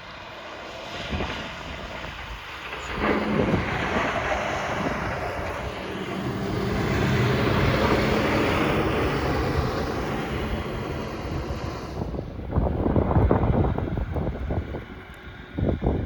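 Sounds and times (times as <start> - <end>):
blizzard wind roaring: 0.0 - 16.0.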